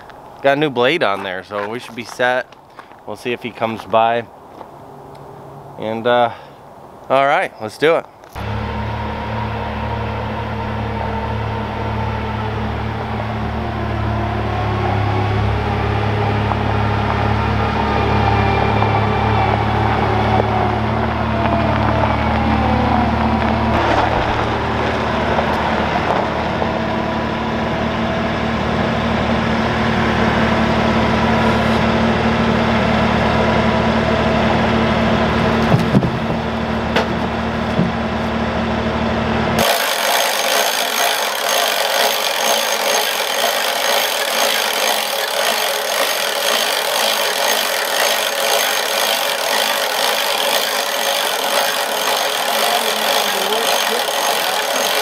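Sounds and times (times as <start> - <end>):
band sawmill running: 8.4 - 55.0
loader engine running: 8.4 - 55.0.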